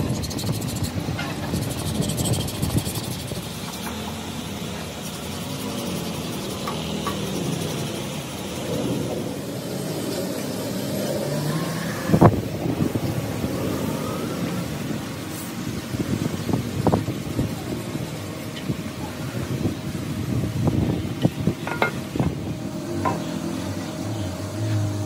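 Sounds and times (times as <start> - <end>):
passing motor vehicles: 0.0 - 25.0.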